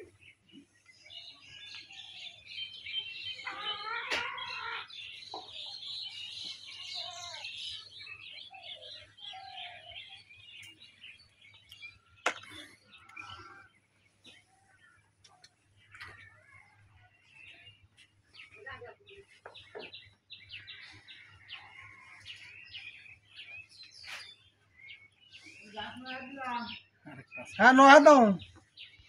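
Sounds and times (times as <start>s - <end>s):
birds chirping and calling: 0.0s - 29.0s.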